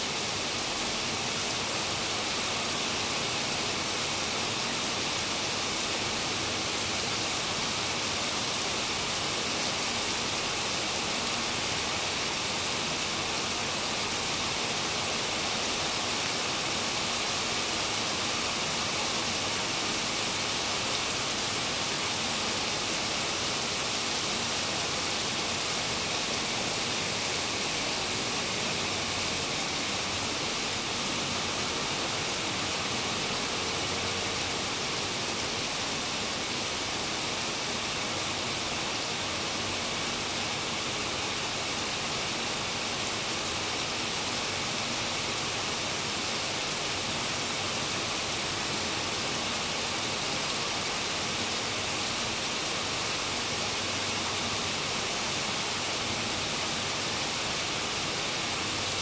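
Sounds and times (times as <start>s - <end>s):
rain falling on pavement: 0.2s - 59.0s.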